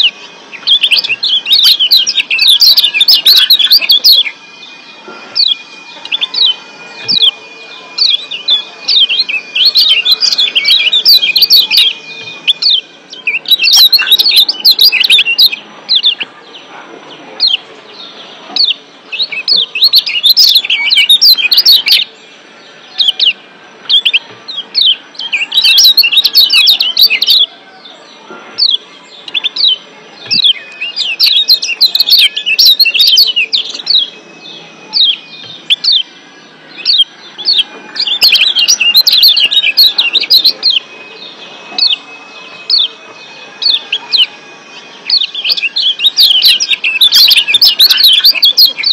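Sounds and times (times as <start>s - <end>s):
bird chirping sharply: 0.0s - 16.7s, 17.4s - 48.9s.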